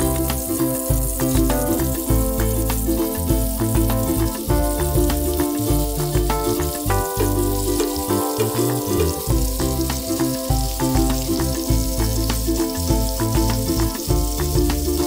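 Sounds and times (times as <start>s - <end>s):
food sizzling in butter: 0.0s - 15.0s
music with steady beat: 0.0s - 15.0s.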